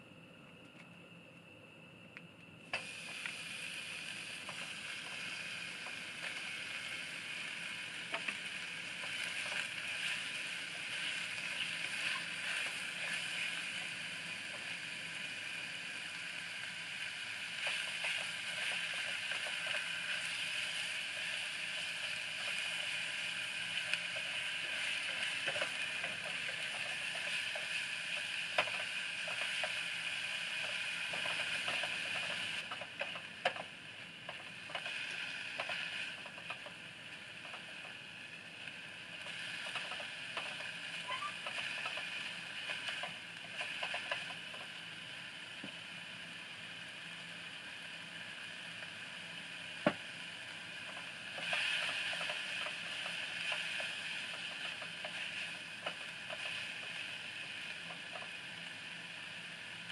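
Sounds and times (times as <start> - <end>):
food sizzling in a pot: 2.7 - 59.9.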